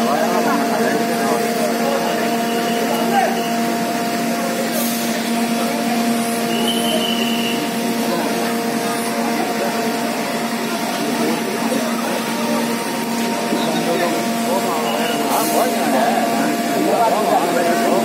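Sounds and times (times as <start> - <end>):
crowd voices: 0.0 - 18.0
fire engine machinery droning: 0.0 - 18.0.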